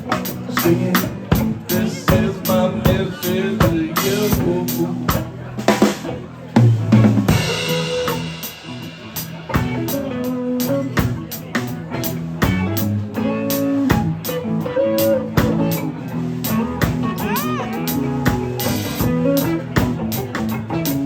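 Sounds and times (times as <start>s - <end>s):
reggae instrumental: 0.0s - 21.0s.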